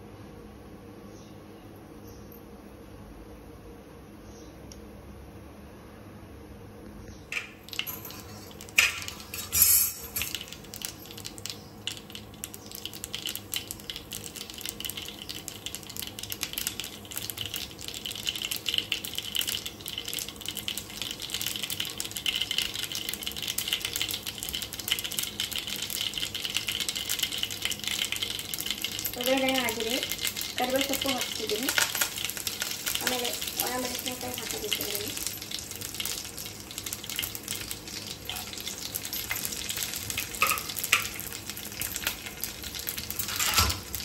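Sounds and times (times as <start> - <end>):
seeds spluttering in hot oil: 7.3 - 44.0.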